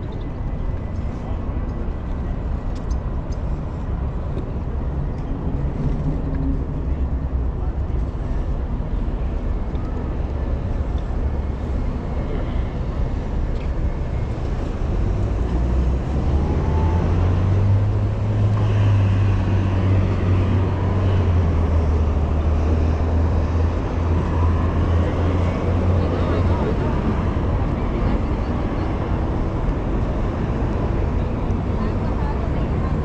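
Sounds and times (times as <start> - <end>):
city street traffic: 0.0 - 33.0
wind rumble on microphone: 0.0 - 33.0.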